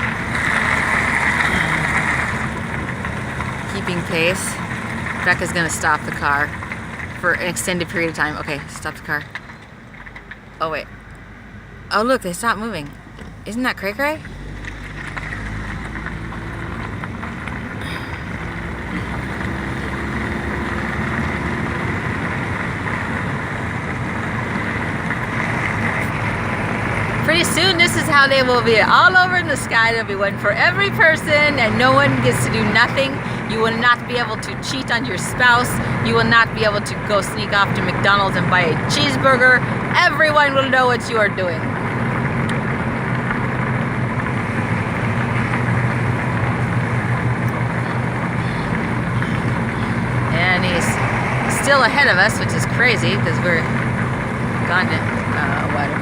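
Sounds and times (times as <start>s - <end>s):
car cabin rumble and hiss: 0.0s - 9.3s, 10.0s - 56.0s.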